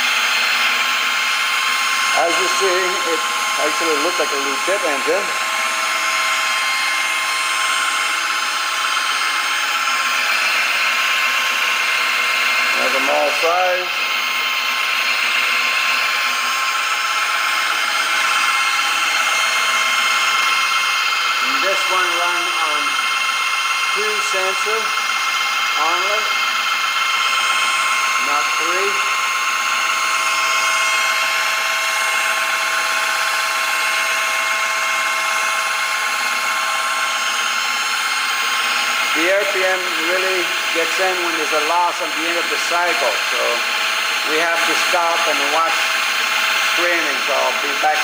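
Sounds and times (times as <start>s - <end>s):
washing machine motor whirring: 0.0s - 48.0s.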